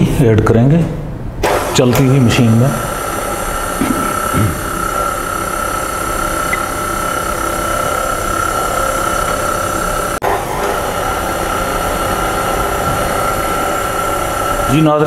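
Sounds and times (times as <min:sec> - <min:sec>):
high motor whine: 0:01.4 - 0:15.0
stand mixer running: 0:01.4 - 0:15.0.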